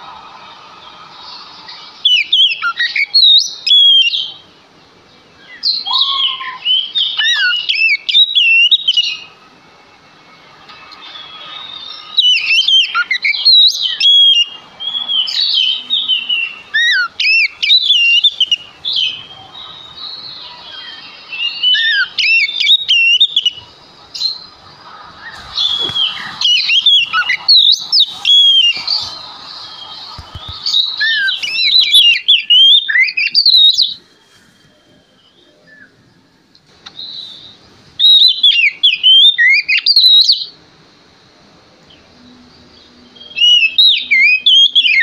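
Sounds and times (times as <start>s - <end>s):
songbird whistles and trills: 0.0s - 4.5s, 5.4s - 9.4s, 10.0s - 40.6s, 41.9s - 45.0s.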